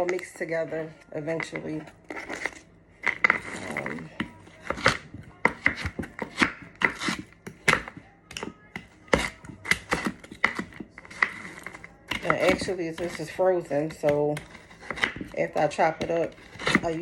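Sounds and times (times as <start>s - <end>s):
knife chopping frozen vegetables: 1.4s - 17.0s.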